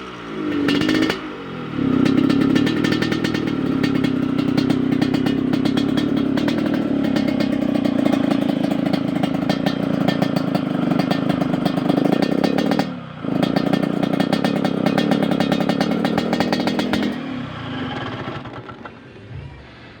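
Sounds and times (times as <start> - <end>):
two-stroke motorcycle engine rasping: 0.0 - 19.3.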